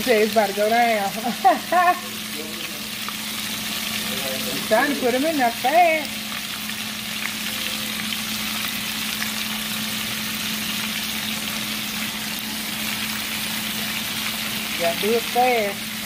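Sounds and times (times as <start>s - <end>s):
crackles of frying food: 0.0s - 16.0s
oil deep-frying with sizzle: 0.0s - 16.0s.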